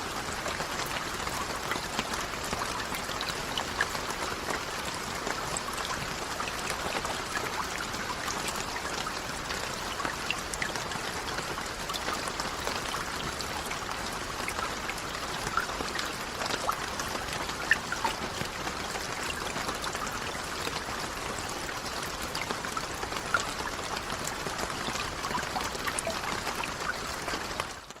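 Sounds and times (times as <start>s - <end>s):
raindrops ticking and splashing: 0.0s - 28.0s
steady rain falling: 0.0s - 28.0s.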